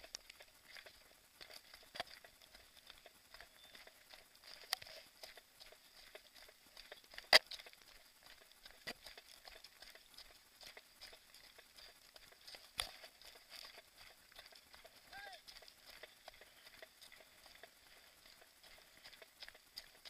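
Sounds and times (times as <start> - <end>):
running footsteps on scree: 0.0 - 20.0.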